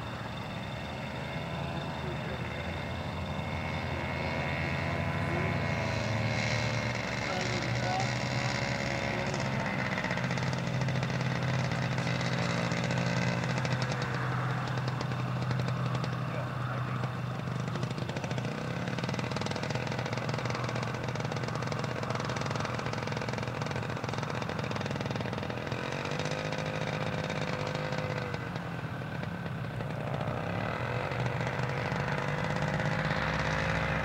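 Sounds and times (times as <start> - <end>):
two-stroke aircraft engine running: 0.0 - 34.0.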